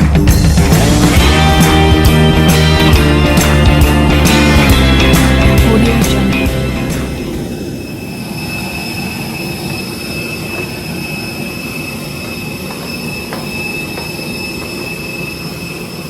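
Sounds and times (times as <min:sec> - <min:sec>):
high-pitched whine: 0:00.0 - 0:16.0
steady machine hum: 0:00.0 - 0:16.0.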